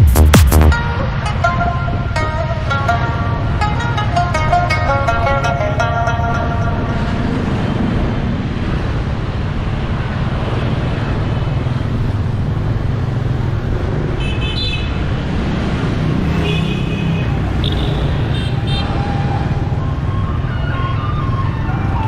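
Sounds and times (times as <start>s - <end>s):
rumble of motorbike traffic: 0.7s - 22.0s.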